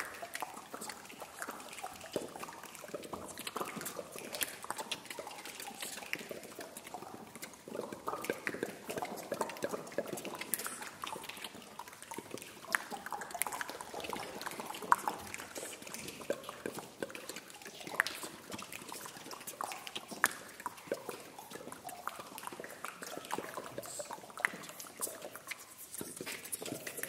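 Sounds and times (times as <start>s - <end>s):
chorus mouth clicks and squeaks: 0.0s - 27.0s.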